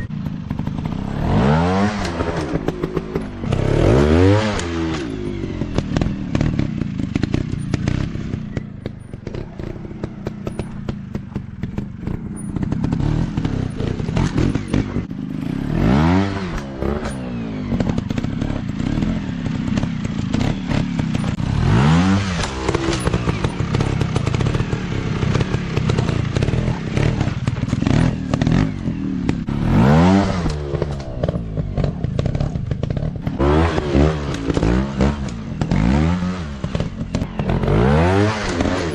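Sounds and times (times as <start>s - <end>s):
bikes rattling over rough ground: 0.0s - 38.9s
dirt bike engines revving: 0.0s - 38.9s.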